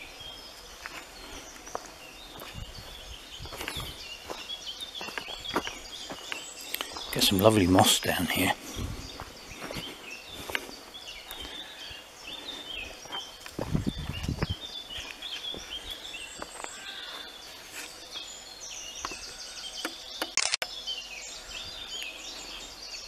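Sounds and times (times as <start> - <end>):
footsteps on dry leaves: 0.0 - 19.6
birds chirping: 0.0 - 23.0.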